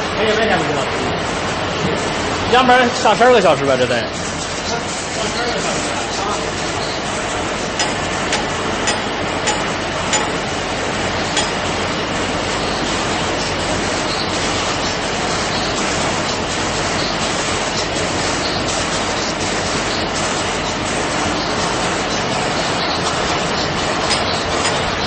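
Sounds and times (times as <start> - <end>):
industrial machinery noise: 0.0 - 25.0.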